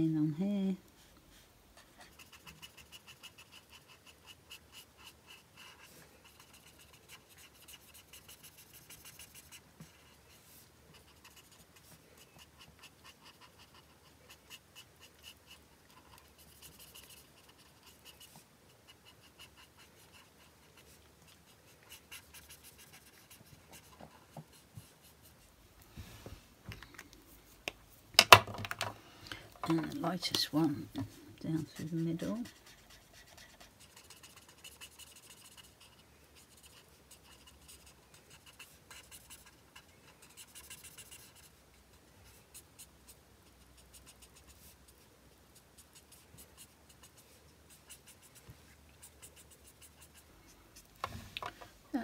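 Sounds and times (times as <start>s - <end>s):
marker nib rubbing on card: 1.8s - 10.2s, 10.9s - 25.5s, 31.5s - 41.6s, 42.3s - 50.9s.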